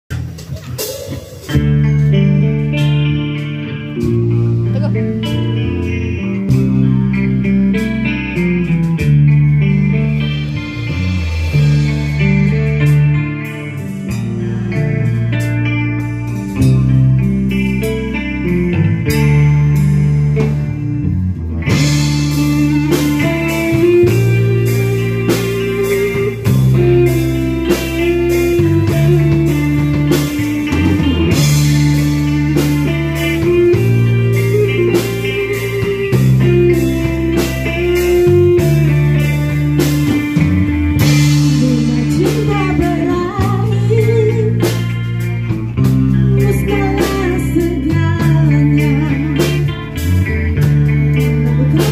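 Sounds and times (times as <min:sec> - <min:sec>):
bass guitar: 0:00.0 - 0:51.9
drum kit: 0:00.0 - 0:51.9
electric guitar melody: 0:00.1 - 0:51.9.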